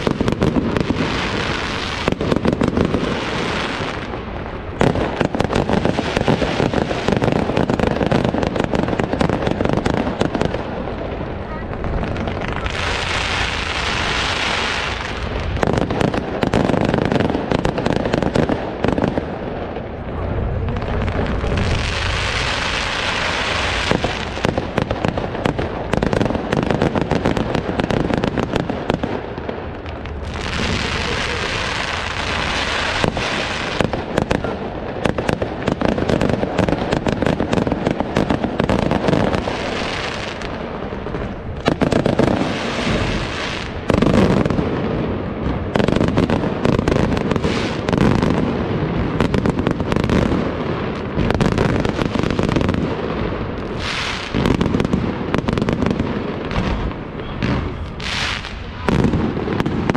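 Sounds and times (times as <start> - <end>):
fireworks bursting and popping: 0.0 - 59.9.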